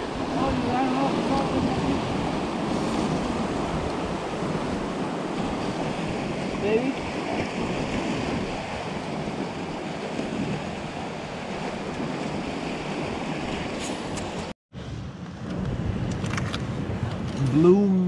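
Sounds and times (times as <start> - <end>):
ocean surf against rocks: 0.0 - 18.0
wind buffeting microphone: 0.0 - 18.0.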